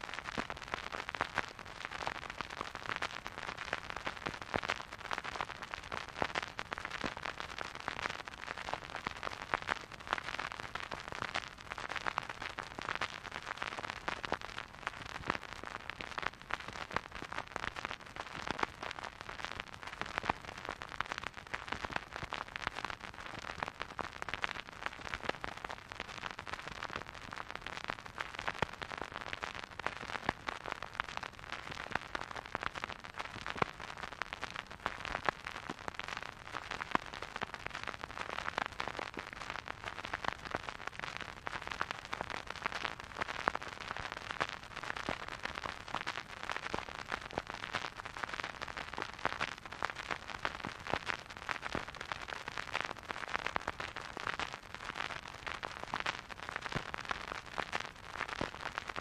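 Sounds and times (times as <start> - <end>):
vinyl record hiss and crackle: 0.0 - 59.0.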